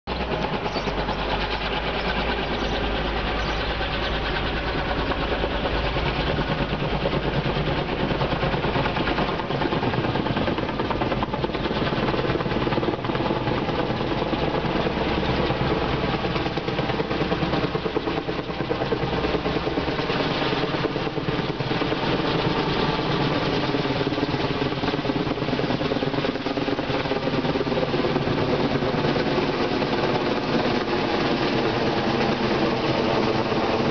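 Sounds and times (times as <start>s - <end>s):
helicopter flying: 0.1s - 33.9s.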